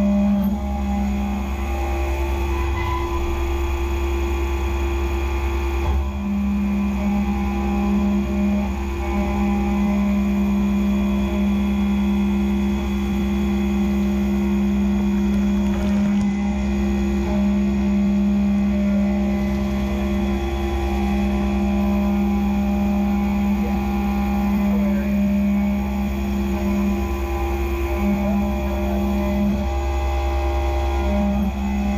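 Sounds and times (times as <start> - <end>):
milling spindle humming: 0.0 - 31.9.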